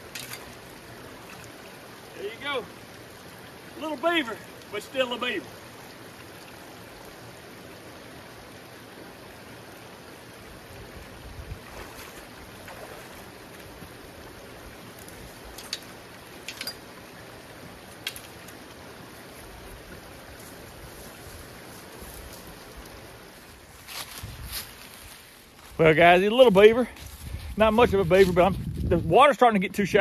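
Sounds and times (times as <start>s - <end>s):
creek water running: 0.0s - 30.0s.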